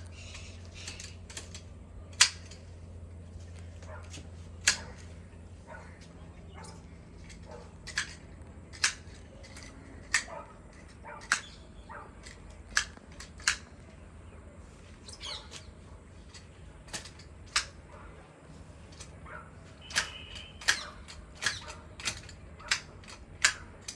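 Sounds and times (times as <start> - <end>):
pruning shears snipping twigs: 0.1 - 14.0, 14.9 - 18.0, 18.8 - 23.9.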